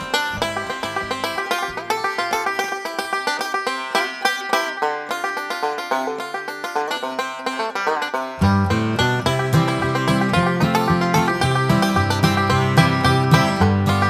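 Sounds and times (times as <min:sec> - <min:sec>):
banjo-style picking music: 0:00.0 - 0:14.0.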